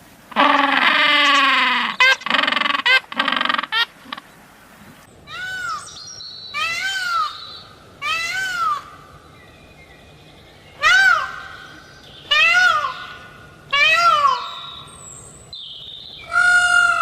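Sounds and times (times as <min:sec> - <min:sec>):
bird mewing calls: 0:00.3 - 0:04.4, 0:05.2 - 0:17.0.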